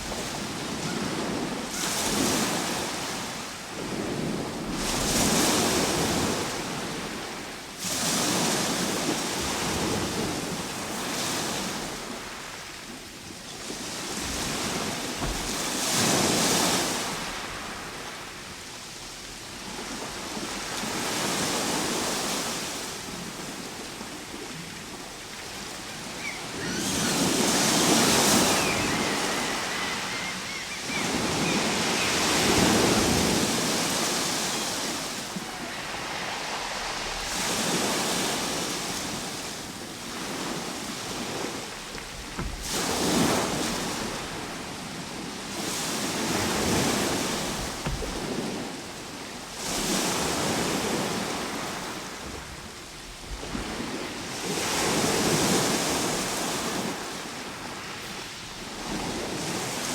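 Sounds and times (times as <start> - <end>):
ocean waves breaking: 0.0 - 18.6, 19.2 - 59.9.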